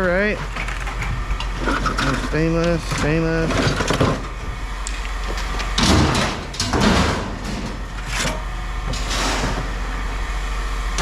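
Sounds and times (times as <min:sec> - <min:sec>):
steady low hum: 0:00.0 - 0:11.0
scrap metal scraping and clattering: 0:00.4 - 0:10.0.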